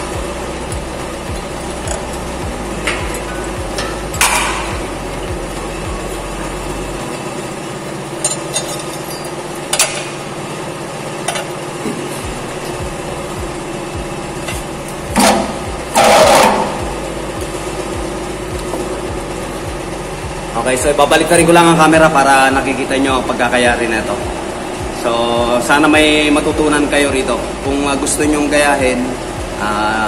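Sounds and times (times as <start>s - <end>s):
electric motor hum: 0.0s - 30.0s.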